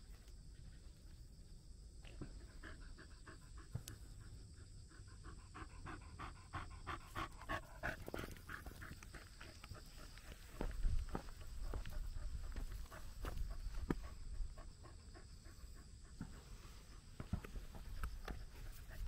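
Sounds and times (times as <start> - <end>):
dog panting rapidly: 2.4 - 10.6, 11.6 - 19.0.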